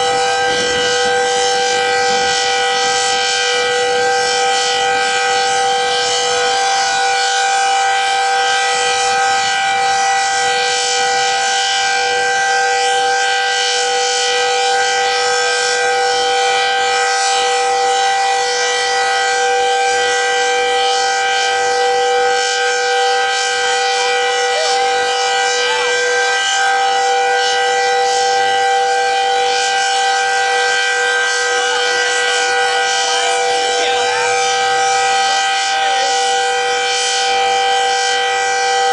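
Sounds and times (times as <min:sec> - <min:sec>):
warning siren two-note chord: 0:00.0 - 0:38.9.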